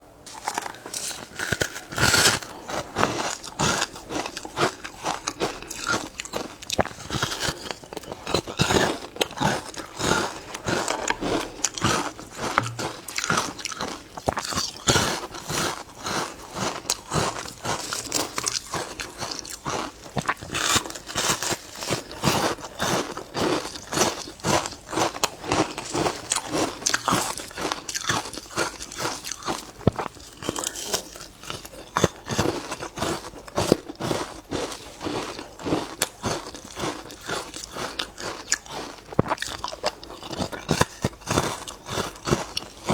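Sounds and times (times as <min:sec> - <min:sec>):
ice being chewed: 0:00.3 - 0:42.9.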